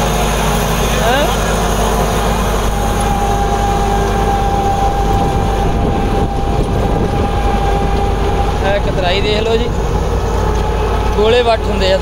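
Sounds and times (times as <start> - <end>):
rotavator churning soil: 0.0 - 12.0
steady whine: 0.0 - 12.0
tractor diesel engine under load: 0.0 - 12.0.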